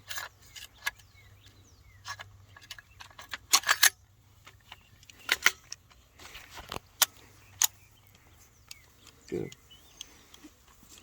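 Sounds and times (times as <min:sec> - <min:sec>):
metallic clicks of rifle parts: 0:00.0 - 0:11.0.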